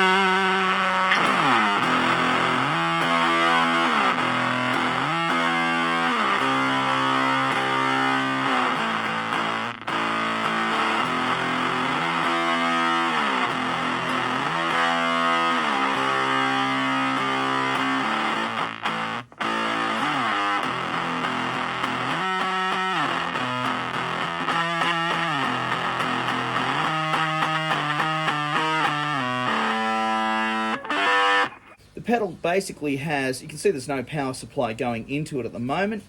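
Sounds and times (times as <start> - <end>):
fuzz electric guitar riff: 0.0 - 31.8.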